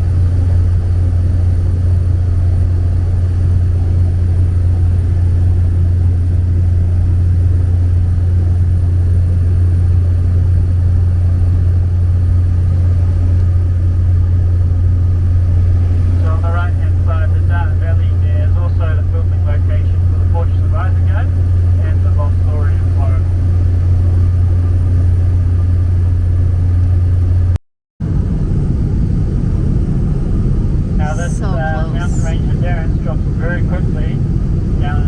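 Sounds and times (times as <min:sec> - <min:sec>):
propeller plane cabin drone: 0:00.0 - 0:35.0.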